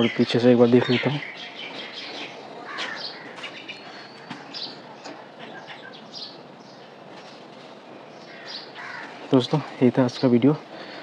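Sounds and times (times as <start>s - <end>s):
birds chirping: 0.0s - 11.0s
steady background noise: 0.0s - 11.0s.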